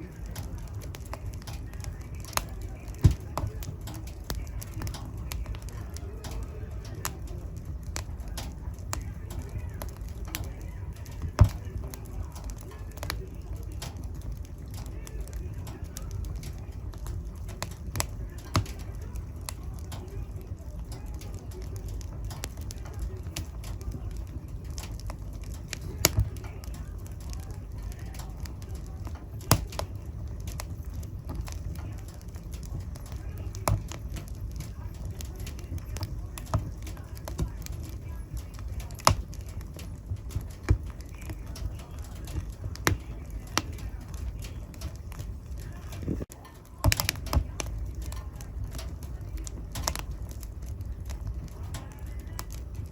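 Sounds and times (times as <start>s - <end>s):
fire crackling and popping: 0.0s - 52.9s
fire rumbling in a fireplace: 0.0s - 52.9s.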